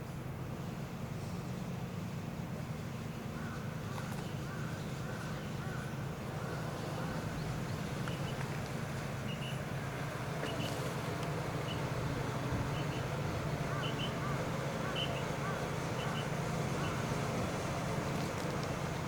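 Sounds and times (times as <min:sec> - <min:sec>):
steady low hum: 0:00.0 - 0:19.0
birds calling: 0:03.2 - 0:19.0.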